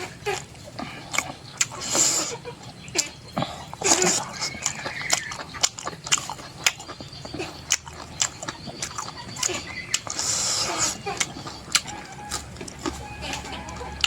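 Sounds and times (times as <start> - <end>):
chewing and biting: 0.0 - 14.0.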